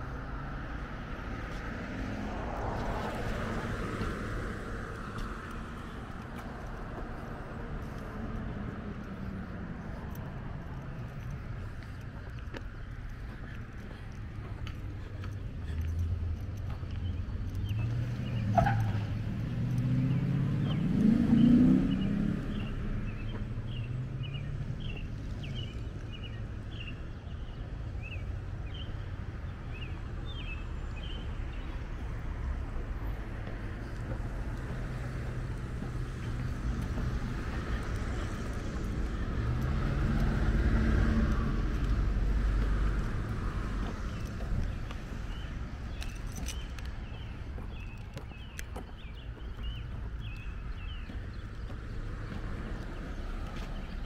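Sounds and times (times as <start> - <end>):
distant traffic: 0.0 - 54.0
faint footsteps on asphalt: 0.0 - 54.0
songbird chirping: 3.5 - 54.0.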